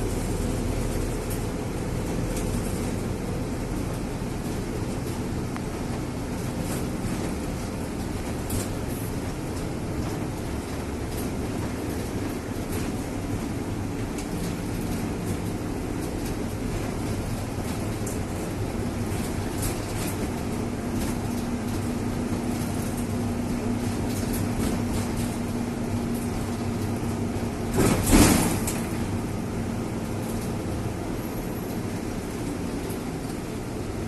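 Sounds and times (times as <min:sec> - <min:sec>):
motor vehicle running: 0:00.0 - 0:34.0.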